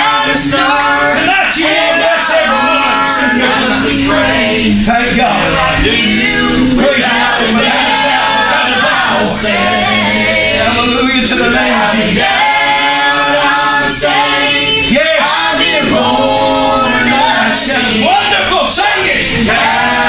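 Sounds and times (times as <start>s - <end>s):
congregation singing: 0.0s - 20.0s.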